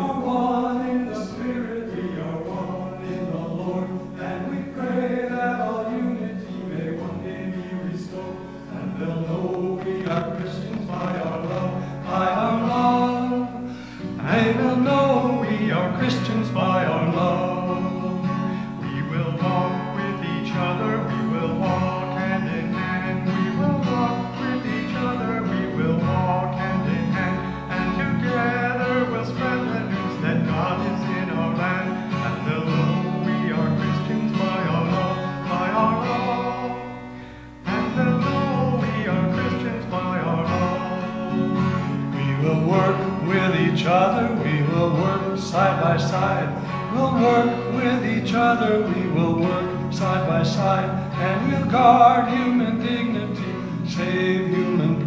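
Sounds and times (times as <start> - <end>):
acoustic guitar: 0.0 - 55.0
man singing a hymn: 0.0 - 55.0.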